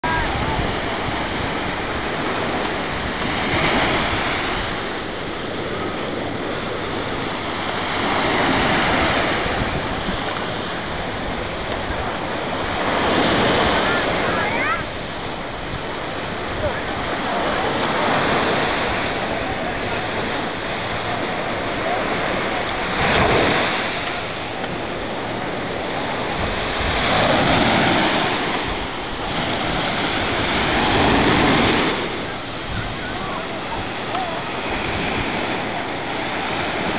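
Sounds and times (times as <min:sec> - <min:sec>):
waves washing onto beach: 0:00.0 - 0:36.9.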